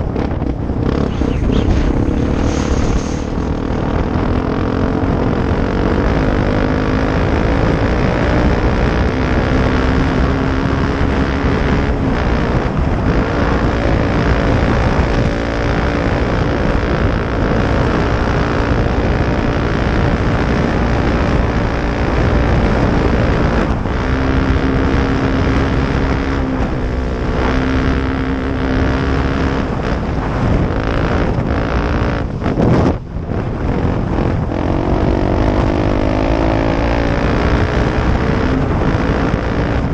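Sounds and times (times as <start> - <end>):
motorcycle engine running: 0.0 - 39.9
wind rumbling on microphone: 0.0 - 39.9.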